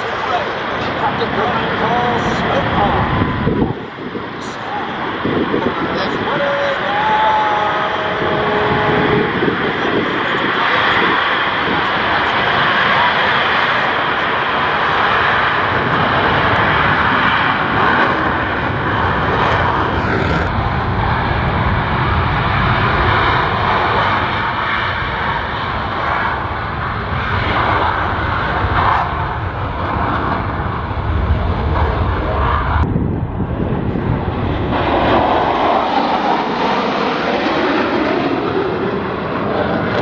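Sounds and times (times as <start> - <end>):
jet engine noise: 0.0 - 40.0.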